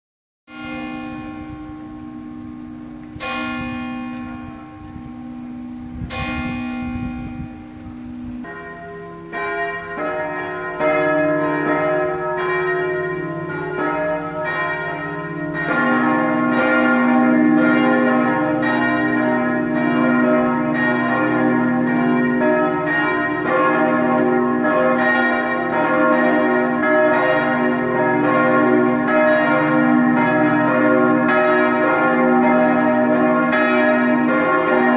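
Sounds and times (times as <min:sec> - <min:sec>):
church bells ringing: 0:00.5 - 0:34.9.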